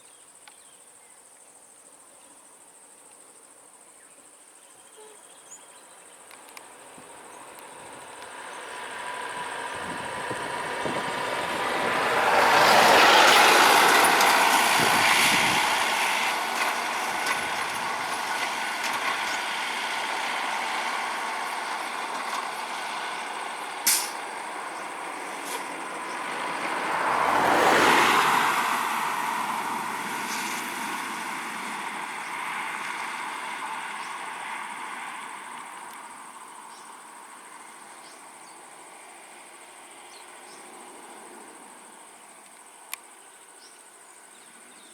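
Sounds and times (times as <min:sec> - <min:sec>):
heavy road vehicles passing: 0:06.4 - 0:42.5.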